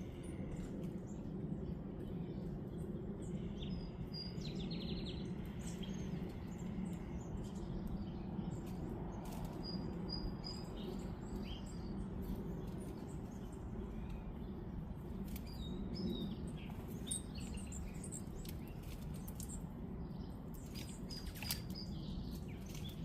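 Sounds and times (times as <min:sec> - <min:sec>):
low background rumble: 0:00.0 - 0:23.0
small birds chirping: 0:00.0 - 0:23.0.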